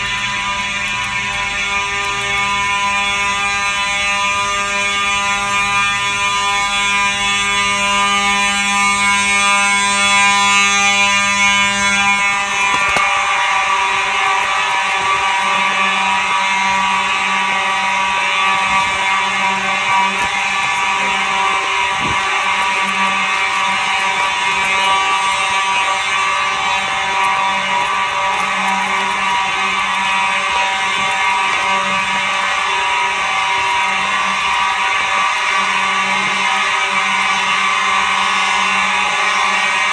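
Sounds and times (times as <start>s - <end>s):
fire alarm horns blaring: 0.0s - 39.9s.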